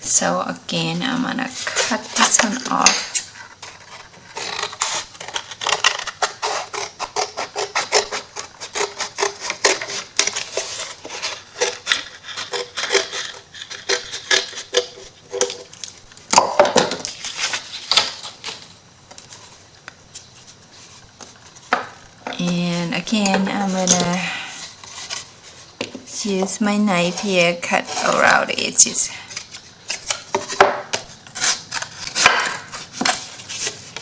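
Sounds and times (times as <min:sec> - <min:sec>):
craft knife scraping: 0:01.5 - 0:15.8, 0:20.2 - 0:34.0.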